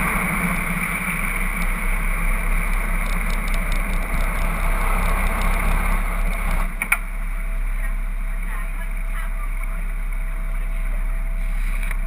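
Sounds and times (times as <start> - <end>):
diesel boat engines running: 0.0 - 12.0
wind: 0.0 - 12.0.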